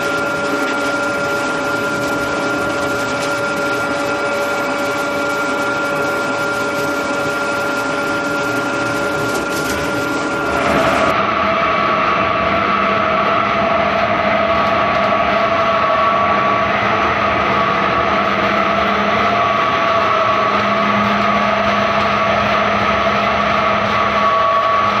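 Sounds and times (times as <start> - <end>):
pellet mill machine droning: 0.0 - 25.0.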